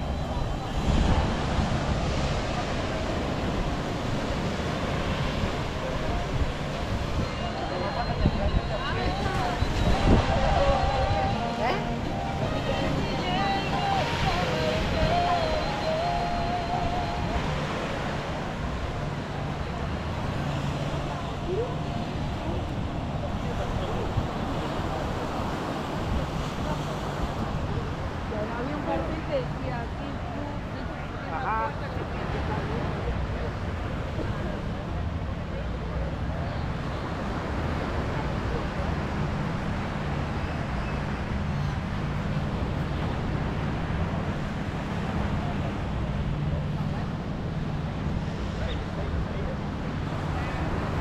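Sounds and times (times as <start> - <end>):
faint voices: 0.0 - 51.0
ocean surf on a beach: 0.0 - 51.0
wind on the microphone: 0.0 - 51.0.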